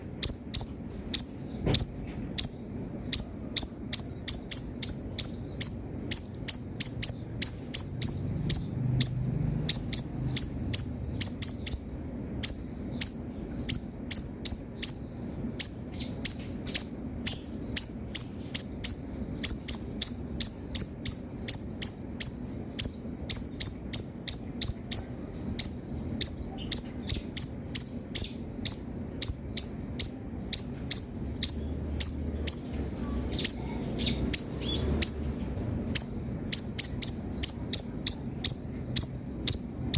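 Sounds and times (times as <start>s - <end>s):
sunbird high chirps: 0.0s - 39.9s.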